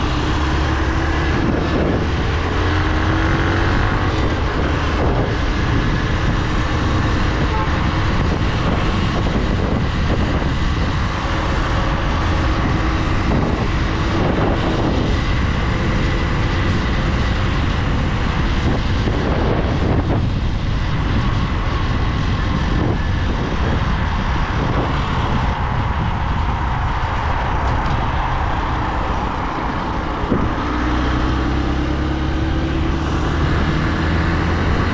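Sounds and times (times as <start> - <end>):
motorcycle engine: 0.0 - 34.9
rushing noise: 0.0 - 34.9.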